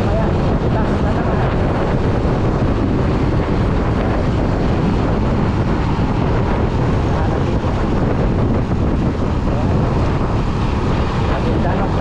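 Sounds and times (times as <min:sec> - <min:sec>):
motorcycle engine: 0:00.0 - 0:12.0
road noise: 0:00.0 - 0:12.0
wind rushing across microphone: 0:00.0 - 0:12.0.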